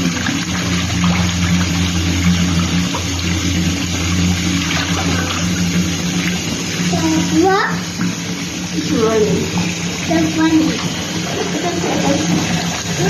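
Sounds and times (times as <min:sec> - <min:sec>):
low hum: 0:00.0 - 0:13.0
tap running into bathtub: 0:00.0 - 0:13.0.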